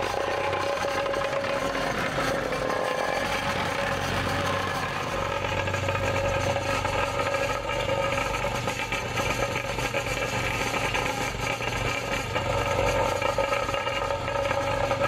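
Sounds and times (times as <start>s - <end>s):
plate compactor engine idling: 0.0s - 15.0s.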